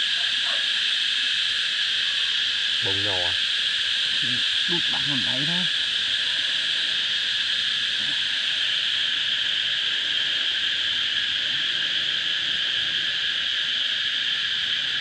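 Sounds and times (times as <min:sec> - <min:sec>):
shrill insect chorus: 0:00.0 - 0:15.0.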